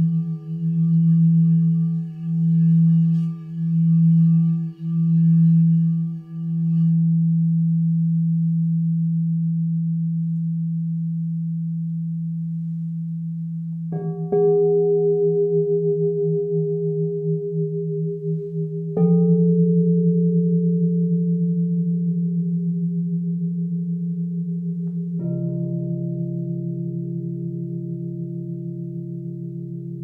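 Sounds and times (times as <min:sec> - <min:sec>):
crystal singing bowls humming: 0:00.0 - 0:30.0.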